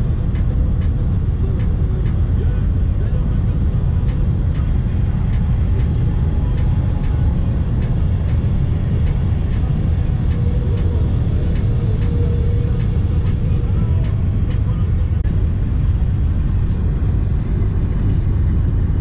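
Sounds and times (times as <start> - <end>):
road and tyre noise inside car: 0.0 - 19.0.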